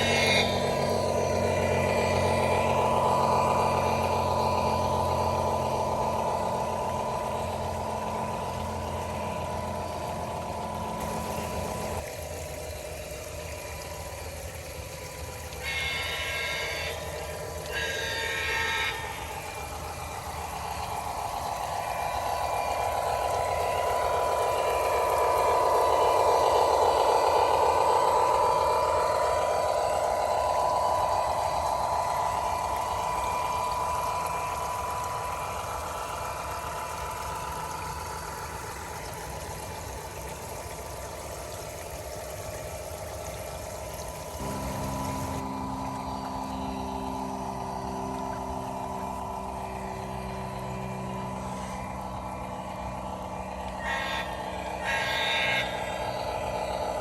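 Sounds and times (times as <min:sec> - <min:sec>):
model train engine running: 0:00.0 - 0:57.0
steady hum: 0:00.0 - 0:57.0.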